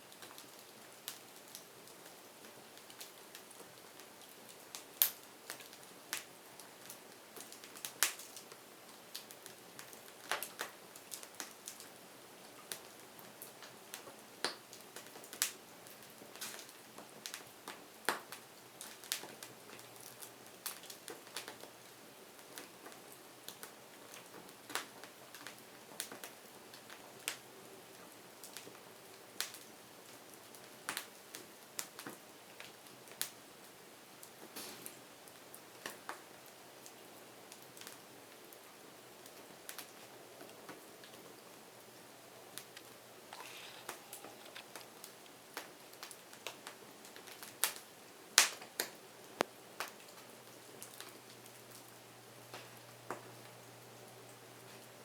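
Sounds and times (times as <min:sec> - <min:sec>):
faint hiss of burning: 0:00.0 - 0:55.0
wood fire crackling: 0:00.1 - 0:55.0.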